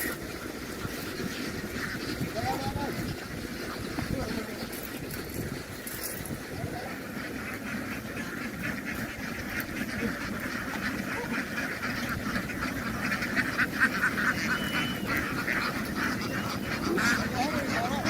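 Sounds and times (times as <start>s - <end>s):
flock of ducks quacking: 0.0s - 18.0s.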